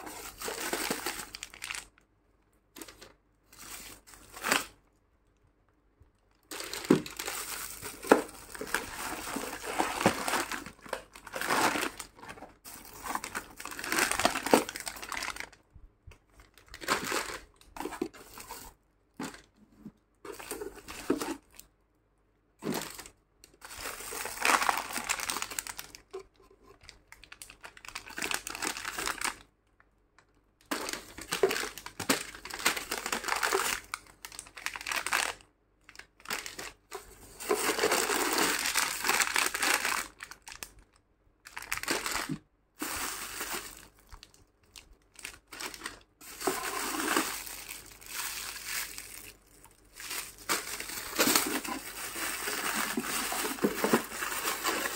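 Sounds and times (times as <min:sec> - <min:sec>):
plastic packets crinkling: 0:00.0 - 0:02.1, 0:02.7 - 0:04.9, 0:06.3 - 0:15.6, 0:16.2 - 0:19.5, 0:20.3 - 0:21.7, 0:22.6 - 0:29.5, 0:30.6 - 0:54.9.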